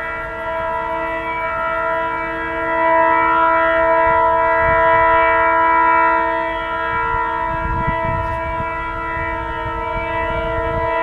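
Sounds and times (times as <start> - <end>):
locomotive air horn blast: 0.0 - 11.0.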